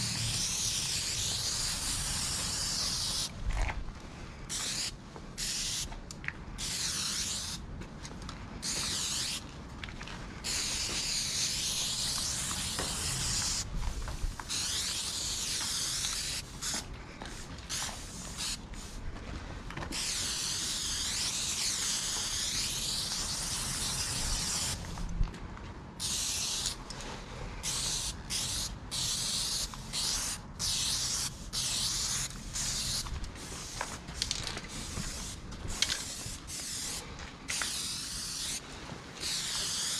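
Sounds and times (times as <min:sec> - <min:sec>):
spray paint can hissing: 0:00.0 - 0:03.4, 0:04.5 - 0:05.9, 0:06.6 - 0:07.6, 0:08.6 - 0:09.4, 0:10.4 - 0:19.0, 0:19.9 - 0:25.0, 0:26.0 - 0:26.8, 0:27.6 - 0:38.6, 0:39.2 - 0:39.9.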